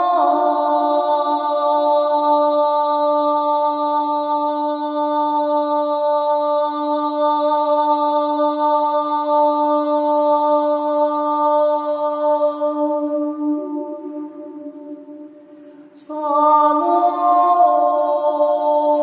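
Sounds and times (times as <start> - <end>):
person chanting a long tone: 0.0 - 19.0.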